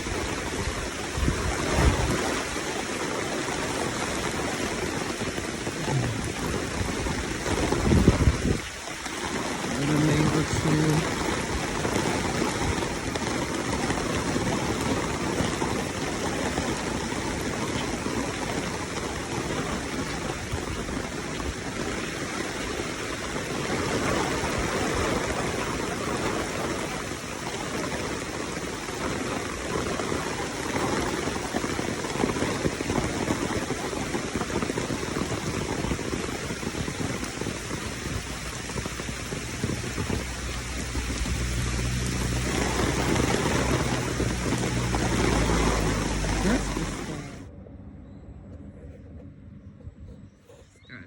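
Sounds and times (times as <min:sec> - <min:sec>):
rushing water: 0:00.0 - 0:47.5.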